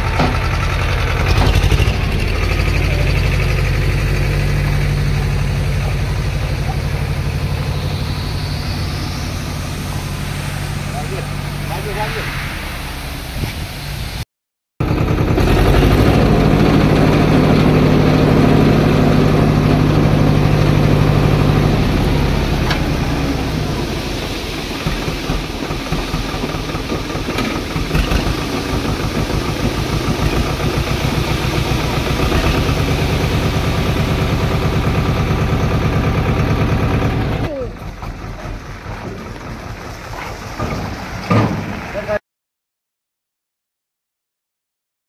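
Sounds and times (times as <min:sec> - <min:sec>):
tractor diesel engine running: 0:00.0 - 0:12.2, 0:14.8 - 0:42.2.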